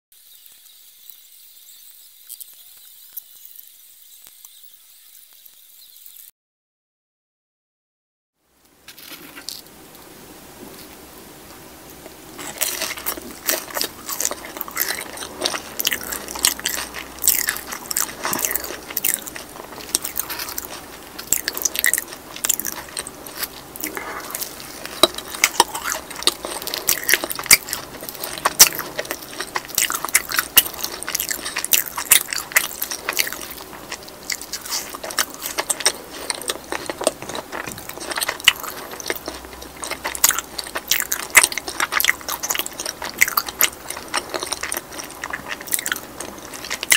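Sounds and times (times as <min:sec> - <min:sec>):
crunchy chewing of fried food: 0:00.2 - 0:06.3, 0:08.7 - 0:46.9.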